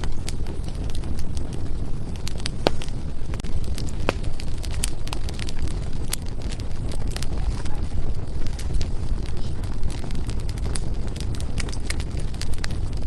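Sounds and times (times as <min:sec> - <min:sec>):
fire flames rumbling: 0:00.0 - 0:13.0
firewood crackling and popping: 0:00.0 - 0:13.0.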